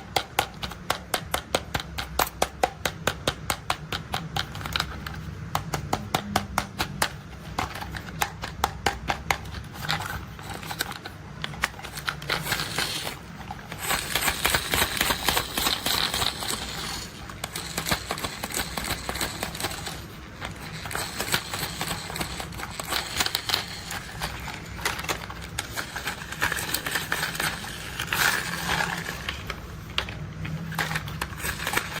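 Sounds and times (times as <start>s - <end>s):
plastic toy clicking and rattling: 0.0s - 32.0s.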